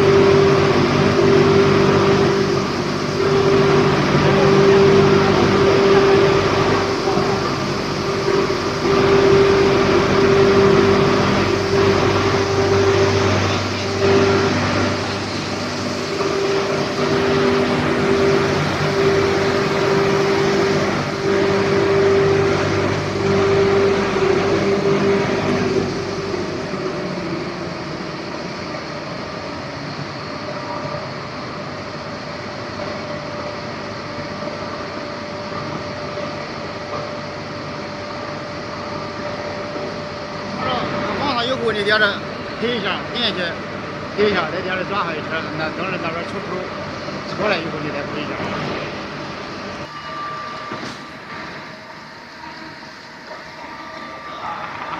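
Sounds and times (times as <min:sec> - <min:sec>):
loud wavering hum: 0:00.0 - 0:54.9
shot blasting machine running: 0:00.0 - 0:54.9.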